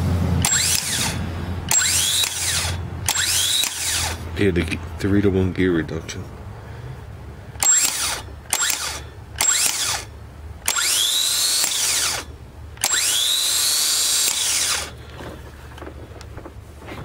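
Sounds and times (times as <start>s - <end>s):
starter motor whining: 0.0s - 4.3s, 7.6s - 17.0s.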